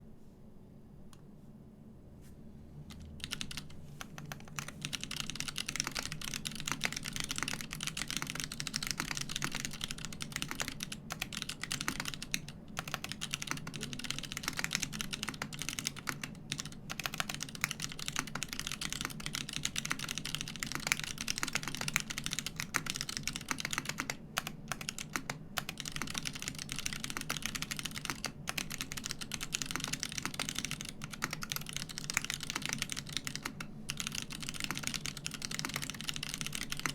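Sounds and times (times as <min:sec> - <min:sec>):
mechanical keyboard typing: 0:02.9 - 0:36.9.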